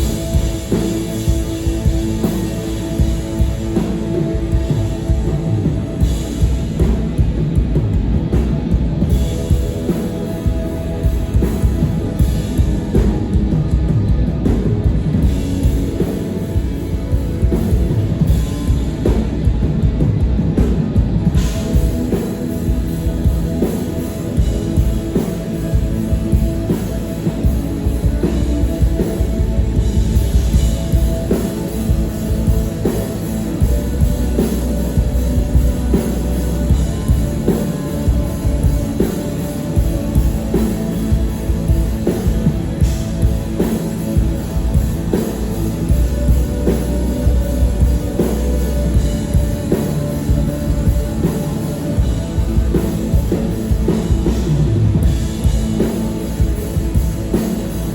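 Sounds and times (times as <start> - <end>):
bass guitar: 0.0 - 57.9
distorted electric guitar: 0.0 - 57.9
steady drum beat: 0.0 - 57.9.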